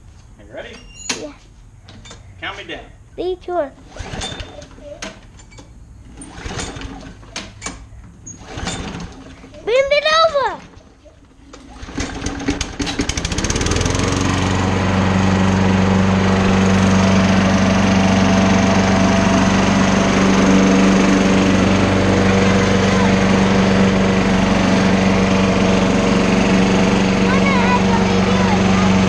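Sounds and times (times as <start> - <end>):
lawn mower engine starting: 3.8 - 29.0.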